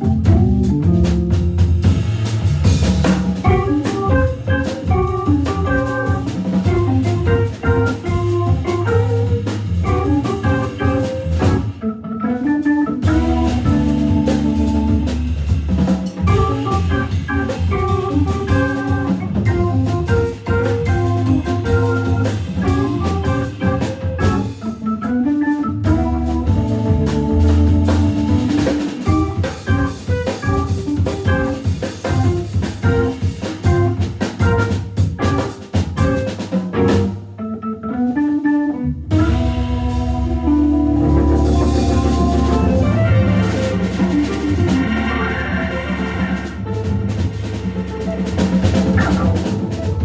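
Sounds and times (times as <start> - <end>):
held organ chords: 0.0 - 47.6
jazz drum kit: 0.0 - 50.0
organ playing melodic runs: 0.0 - 50.0.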